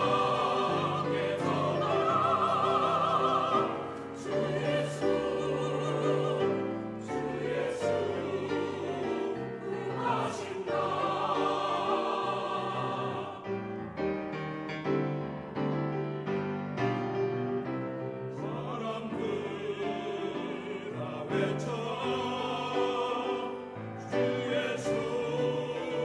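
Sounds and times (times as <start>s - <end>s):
choir singing a hymn: 0.0s - 14.2s, 17.7s - 26.0s
piano accompaniment: 0.0s - 26.0s.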